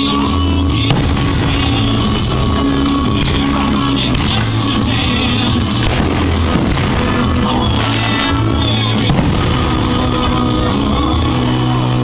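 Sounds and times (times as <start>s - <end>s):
loud rock music: 0.0s - 12.0s
fireworks: 0.7s - 11.4s.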